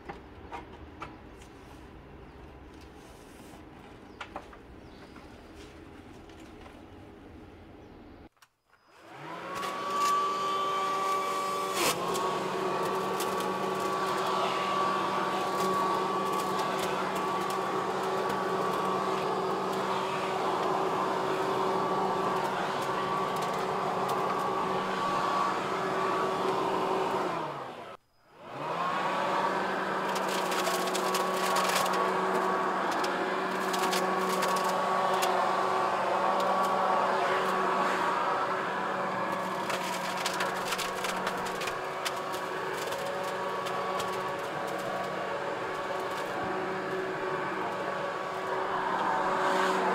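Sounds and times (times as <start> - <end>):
leaf vacuum whining: 8.7 - 49.9.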